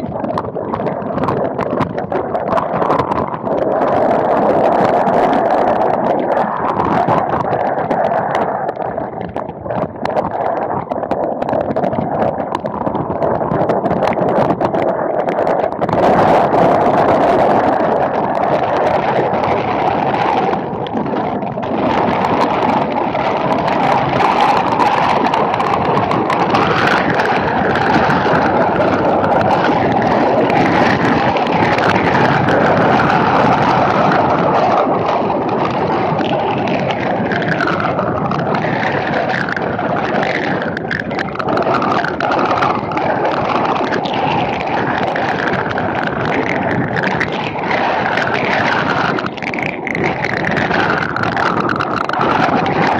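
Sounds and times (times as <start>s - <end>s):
wind buffeting camera: 0.0s - 52.9s.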